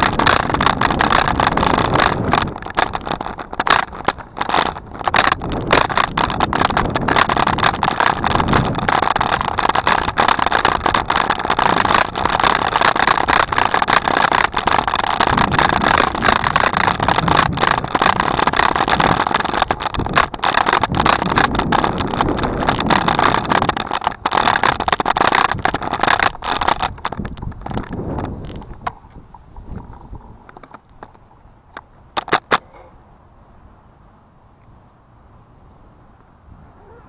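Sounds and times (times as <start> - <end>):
bicycle rattling and clicking: 0.0 - 32.7
bicycle riding rush: 0.0 - 32.9.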